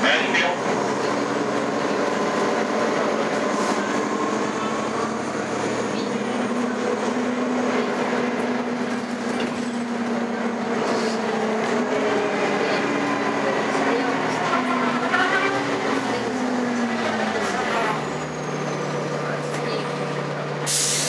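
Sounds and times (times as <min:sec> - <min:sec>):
bus drivetrain whine: 0:00.0 - 0:21.0
road noise: 0:00.0 - 0:21.0.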